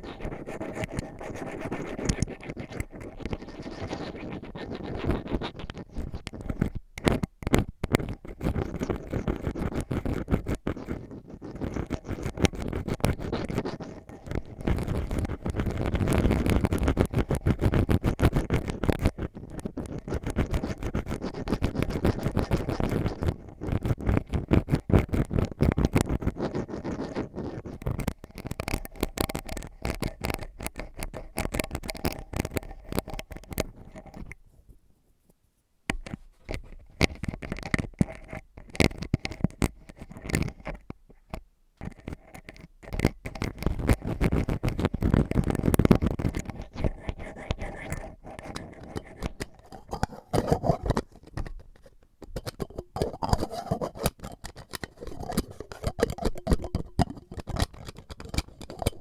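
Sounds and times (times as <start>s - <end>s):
ear pick scratching: 0.0s - 34.4s, 41.9s - 59.0s.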